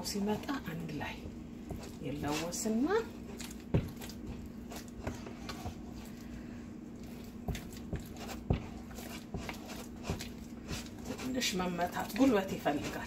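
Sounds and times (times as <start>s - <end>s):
steady low hum: 0.0s - 13.0s
wooden spoon beating thick dough: 0.0s - 13.0s.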